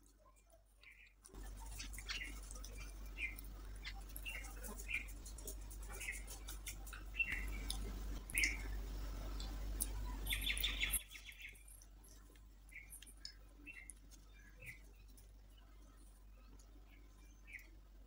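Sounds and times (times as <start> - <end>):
chewing and eating sounds: 0.0 - 17.8
small birds chirping: 0.0 - 18.0.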